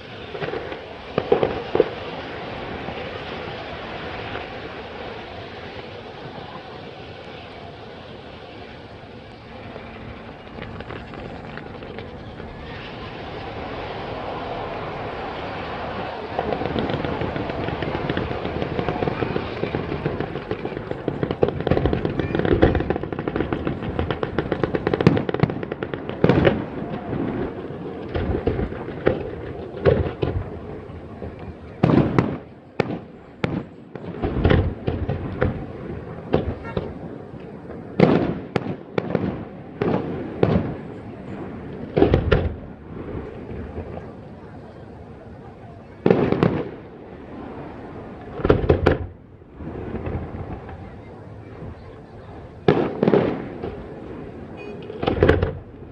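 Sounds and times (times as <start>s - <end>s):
fireworks bangs: 0.0s - 55.9s
fireworks crackling and popping: 0.0s - 55.9s.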